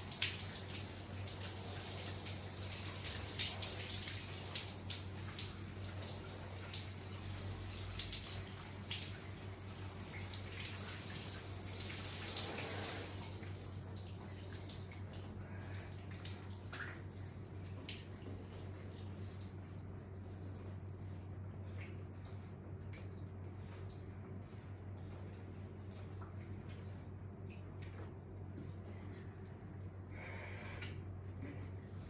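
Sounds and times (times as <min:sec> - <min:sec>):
shower water splashing and dripping: 0:00.0 - 0:29.6
steady low hum: 0:00.0 - 0:32.0.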